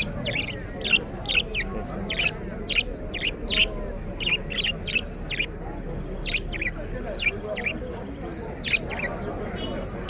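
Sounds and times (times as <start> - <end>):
finches chirping: 0.0 - 10.0.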